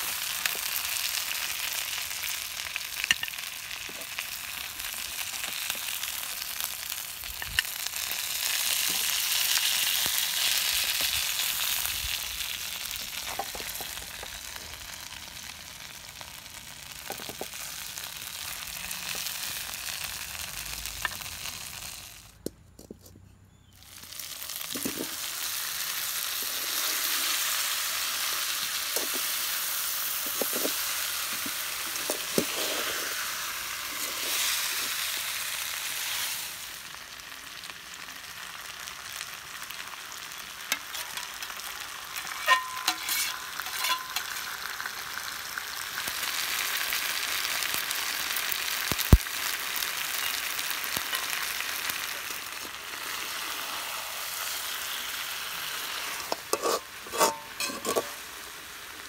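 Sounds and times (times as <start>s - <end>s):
chicken frying in a pan: 0.0s - 22.4s, 23.7s - 59.0s.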